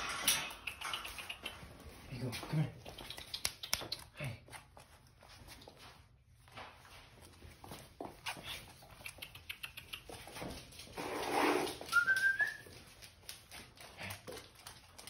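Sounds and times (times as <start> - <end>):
dog claws clicking on floor: 0.0 - 5.9, 6.8 - 15.0.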